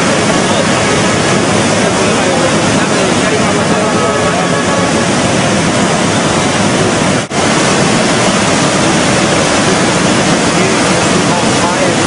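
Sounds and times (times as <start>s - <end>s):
flooded river rushing: 0.0s - 12.0s.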